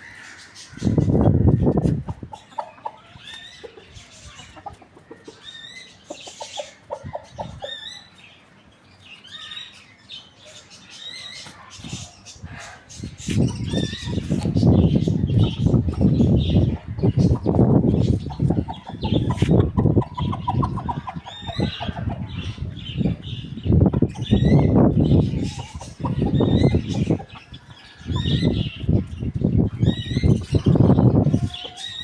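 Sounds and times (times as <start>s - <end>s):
rooster and hen clucking: 0.2s - 8.4s, 11.0s - 32.0s.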